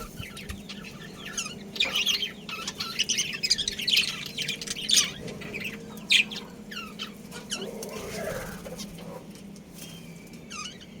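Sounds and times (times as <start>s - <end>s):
budgerigars chirping: 0.0s - 9.2s, 10.5s - 11.0s
steady low hum: 0.0s - 11.0s.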